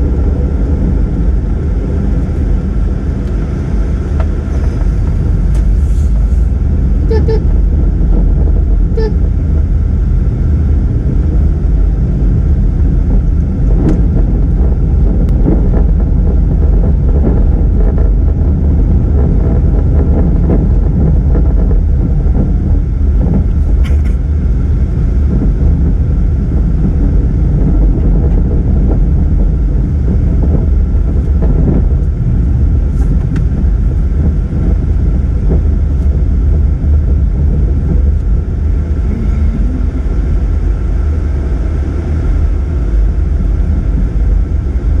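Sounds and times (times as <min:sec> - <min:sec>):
car engine and road rumble: 0:00.0 - 0:45.0.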